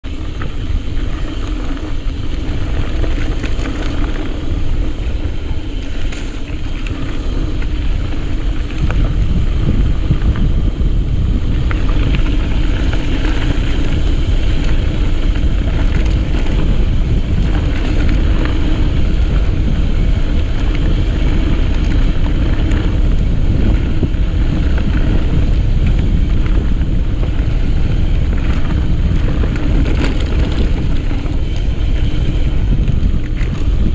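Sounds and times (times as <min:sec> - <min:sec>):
wind buffeting microphone: 0:00.0 - 0:33.9
bike clicks and knocks: 0:00.1 - 0:33.9.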